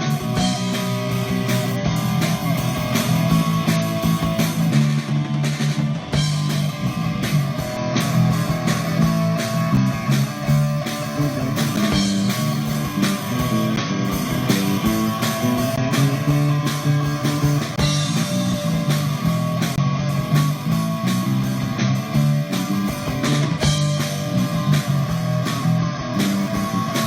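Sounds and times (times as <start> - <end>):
bass guitar low notes: 0.0 - 27.0
drum beat: 0.0 - 27.0
rock band playing: 0.0 - 27.0.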